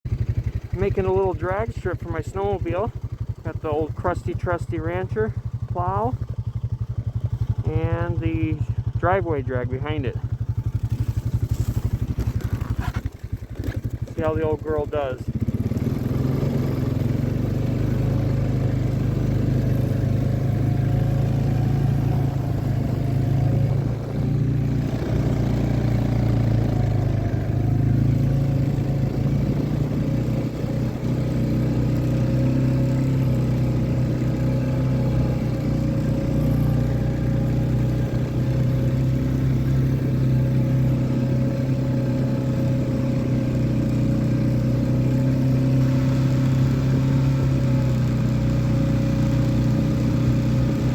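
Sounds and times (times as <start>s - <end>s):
atv engine running: 0.1s - 50.9s.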